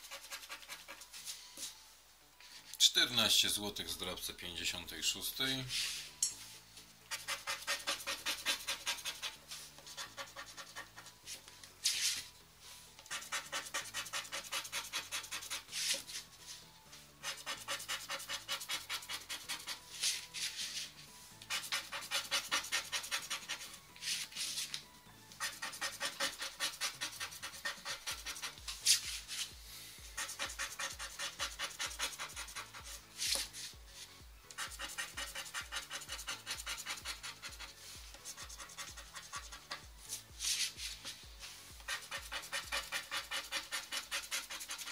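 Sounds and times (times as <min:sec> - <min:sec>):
scratch card being scratched: 0:00.0 - 0:01.3, 0:07.1 - 0:12.3, 0:13.0 - 0:16.6, 0:17.2 - 0:44.9
quiet background music: 0:00.0 - 0:44.9.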